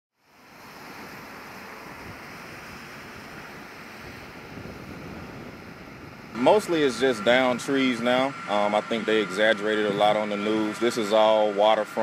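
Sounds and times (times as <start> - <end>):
rushing outdoor ambience: 0.2 - 12.0.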